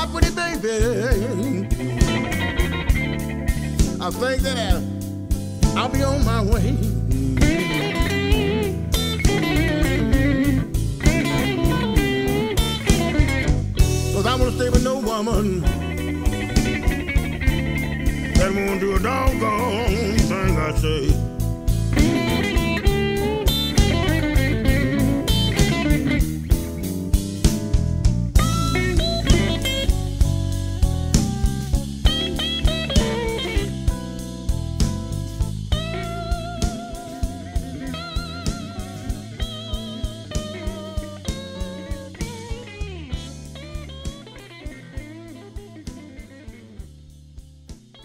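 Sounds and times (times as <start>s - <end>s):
bass: 0.0s - 48.0s
electric guitar with bent notes: 0.0s - 48.0s
steady drum beat: 0.0s - 48.0s.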